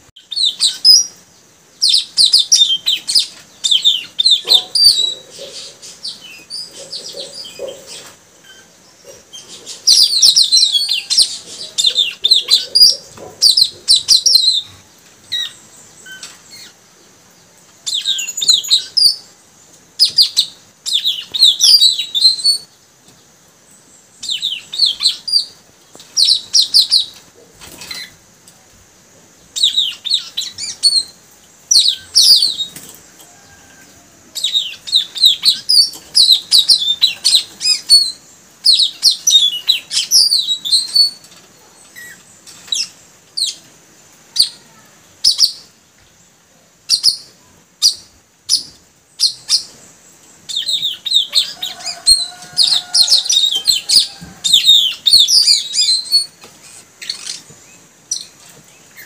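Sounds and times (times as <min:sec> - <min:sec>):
birds singing rapid chirps: 0:00.0 - 0:59.0
faint high hiss: 0:00.0 - 0:59.0.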